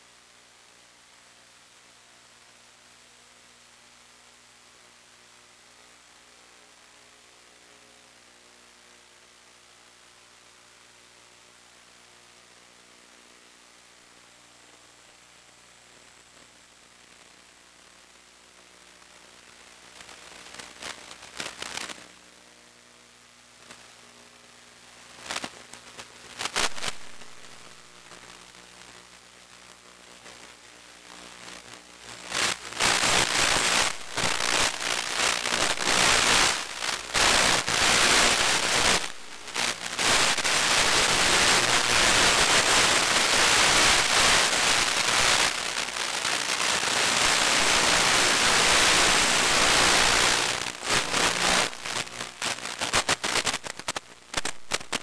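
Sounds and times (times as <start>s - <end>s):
radio static hiss and crackling: 0.0s - 55.0s.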